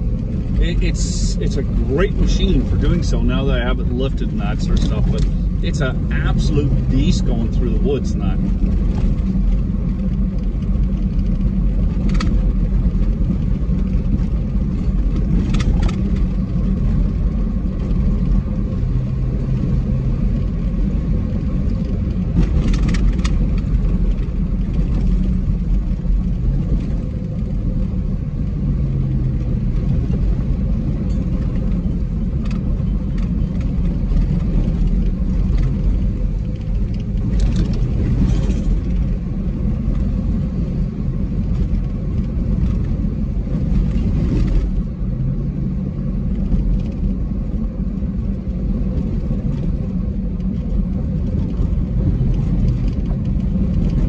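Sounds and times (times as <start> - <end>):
car rumbling on gravel: 0.0 - 54.0.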